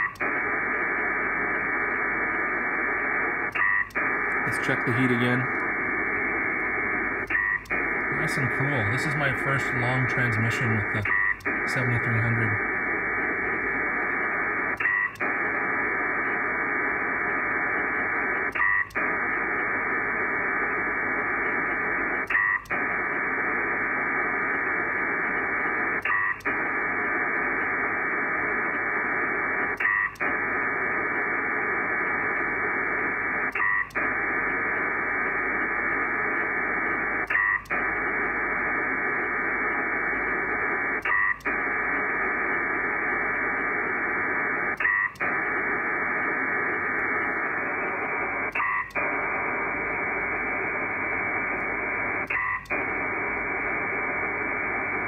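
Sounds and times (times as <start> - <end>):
hissing data tones: 0.0 - 55.0.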